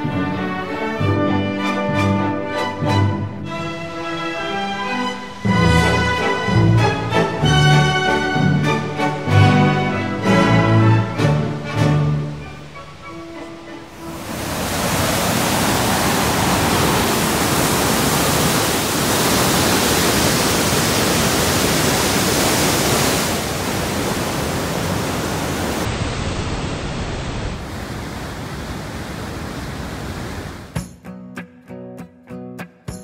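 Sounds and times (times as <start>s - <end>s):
waterfall and rapids rushing: 0.0s - 30.8s.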